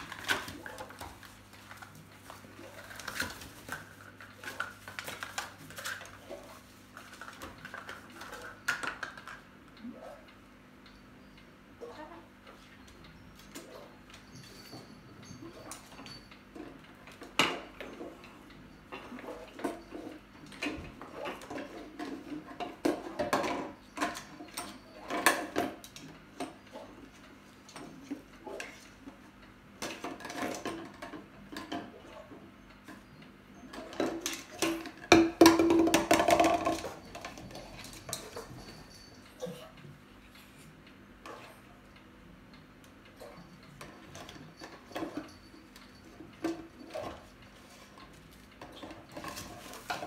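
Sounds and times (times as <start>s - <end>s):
cockatoo playing with toys: 0.0s - 10.3s, 11.3s - 40.7s, 43.1s - 50.0s.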